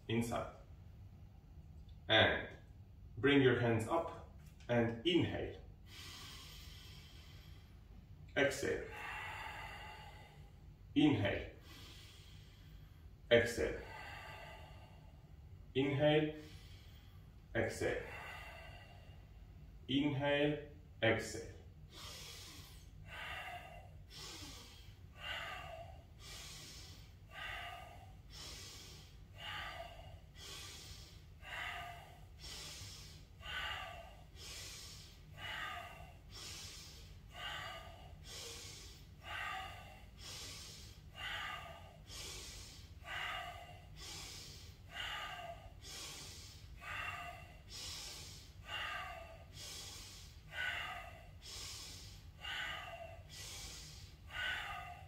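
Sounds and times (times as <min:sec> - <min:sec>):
deep rhythmic breathing: 0:00.0 - 0:55.0
steady low hum: 0:00.0 - 0:55.0.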